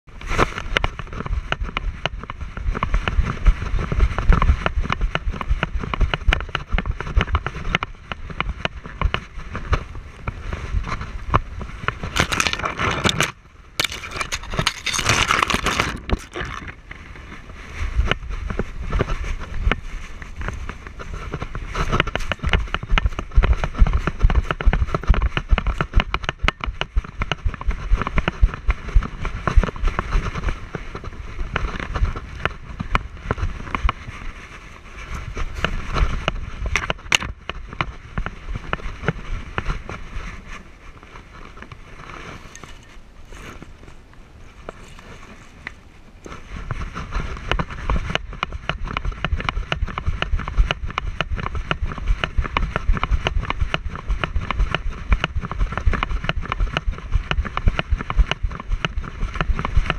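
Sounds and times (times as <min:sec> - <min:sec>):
wind buffeting: 0:00.7 - 0:59.9
paws crunching on gravel: 0:05.5 - 0:59.9.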